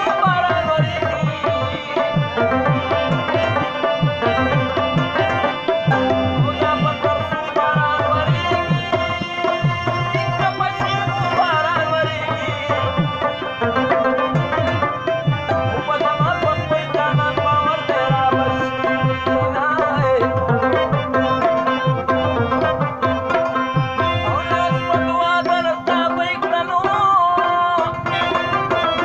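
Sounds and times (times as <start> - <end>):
sustained melodic instrument: 0.0 - 29.0
tabla drumming: 0.0 - 29.0.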